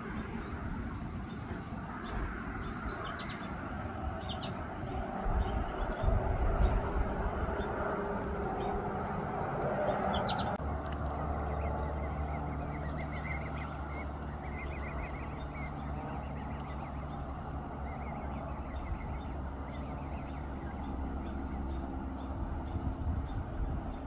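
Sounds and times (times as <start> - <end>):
goslings peeping: 0.0 - 24.0
steady low rumble: 0.0 - 24.0.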